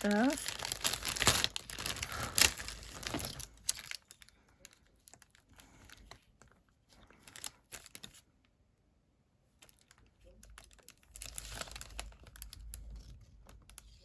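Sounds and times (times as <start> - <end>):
plastic sheet crinkling and clicking: 0.0 - 8.3, 9.6 - 14.0.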